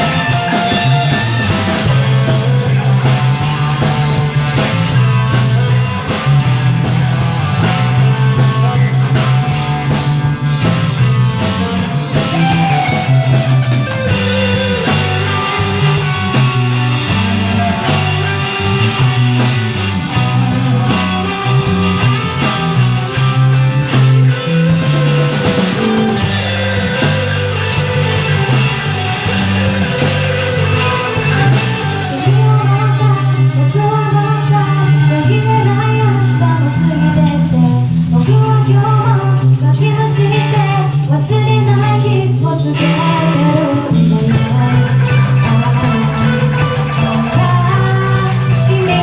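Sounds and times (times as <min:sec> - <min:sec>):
rock band playing: 0:00.0 - 0:49.0.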